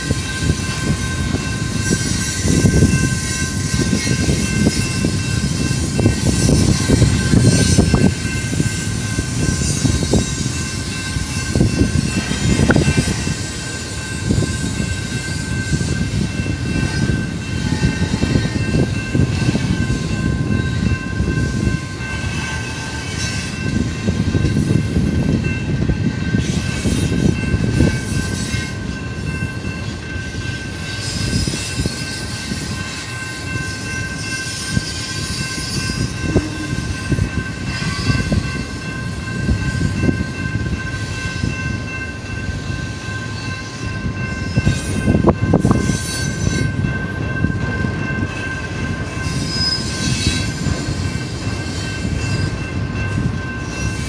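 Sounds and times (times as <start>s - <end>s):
steady high ringing: 0.0s - 54.0s
train cars clanking: 0.0s - 54.0s
train wheels rumbling on rails: 0.0s - 54.0s.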